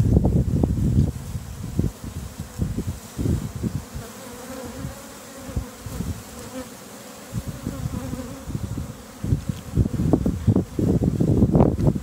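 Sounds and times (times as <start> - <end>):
bees buzzing: 1.1 - 12.0.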